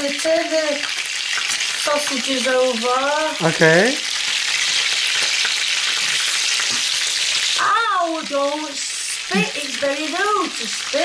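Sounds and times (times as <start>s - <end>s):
sausages sizzling in frying pan: 0.0s - 11.0s.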